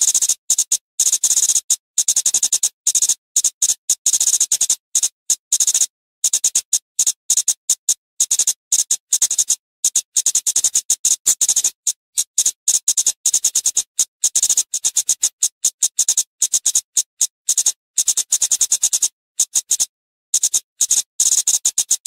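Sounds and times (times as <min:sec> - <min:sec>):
bird ticking calls: 0:00.0 - 0:22.0.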